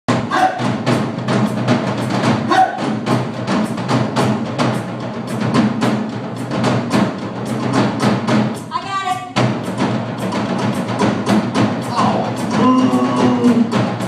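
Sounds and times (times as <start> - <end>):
drums and cymbals fast rhythm: 0.1 - 14.0.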